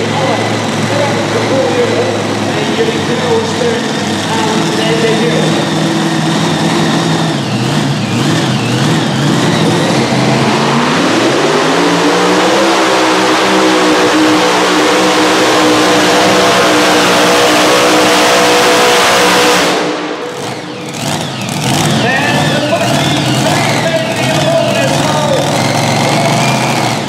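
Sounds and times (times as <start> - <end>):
supercharged engine at full throttle: 0.0 - 27.0.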